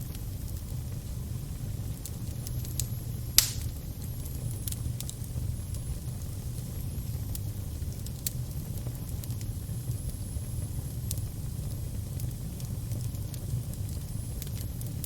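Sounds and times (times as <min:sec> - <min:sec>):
fire burning with crackles: 0:00.0 - 0:15.0.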